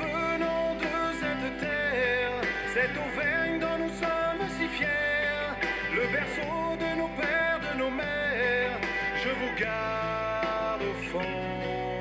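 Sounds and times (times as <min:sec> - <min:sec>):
instrumental chanson music: 0:00.0 - 0:12.0.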